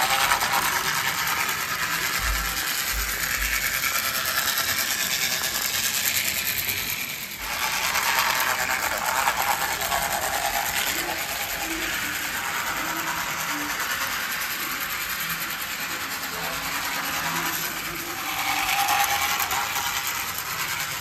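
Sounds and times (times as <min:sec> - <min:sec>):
toy train rattling: 0:00.0 - 0:21.0.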